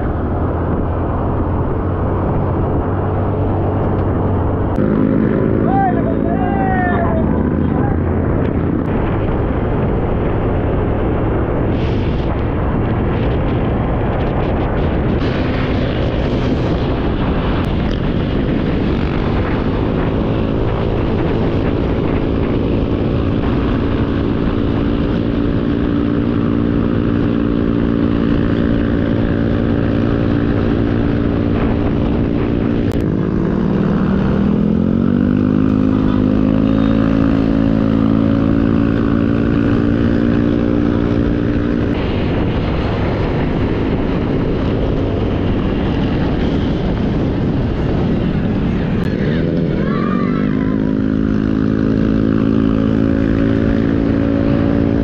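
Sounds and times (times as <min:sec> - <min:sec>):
motorcycle engine running: 0:00.0 - 0:55.0
wind rush: 0:00.0 - 0:55.0.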